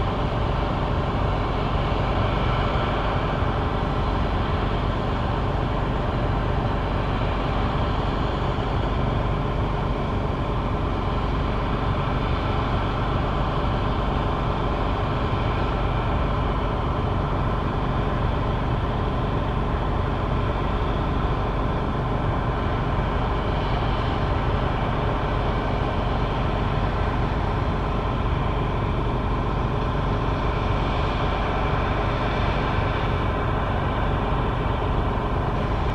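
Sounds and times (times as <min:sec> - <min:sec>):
combine harvester drone: 0:00.0 - 0:35.9
steady machine whine: 0:00.0 - 0:35.9.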